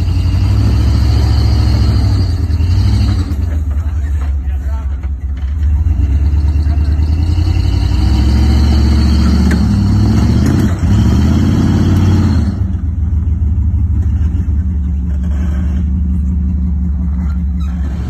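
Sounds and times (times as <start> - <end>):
engine revving under load: 0.0 - 3.6, 5.6 - 13.3, 14.0 - 18.0.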